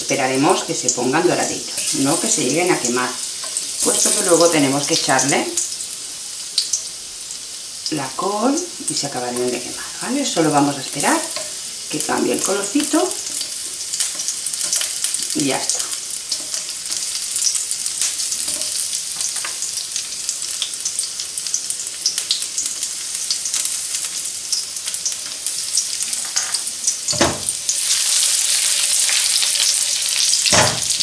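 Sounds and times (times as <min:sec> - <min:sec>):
garlic sizzling in oil: 0:00.0 - 0:31.0.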